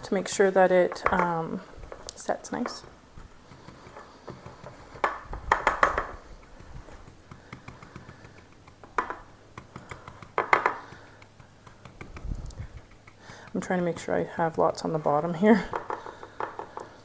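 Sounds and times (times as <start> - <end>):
knocking and scraping on pie plate: 0.0 - 14.8, 15.6 - 17.0.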